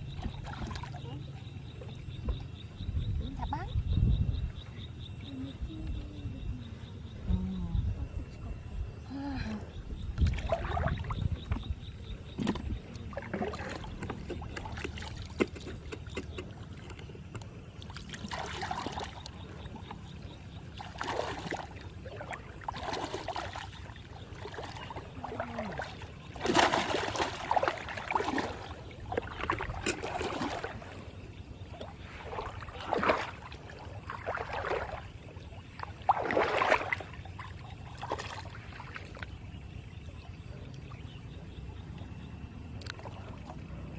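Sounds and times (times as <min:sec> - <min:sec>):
water splashing and sloshing: 0:00.0 - 0:07.2, 0:08.0 - 0:43.9.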